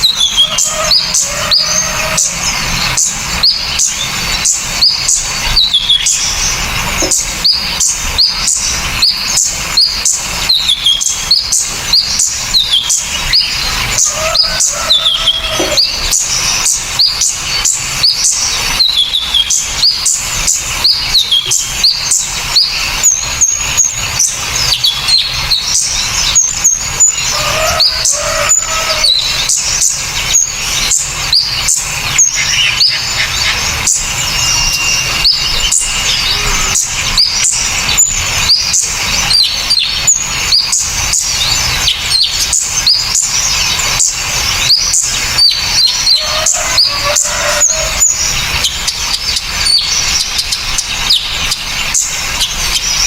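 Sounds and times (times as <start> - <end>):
songbirds chirping and whistling: 0.0 - 53.0.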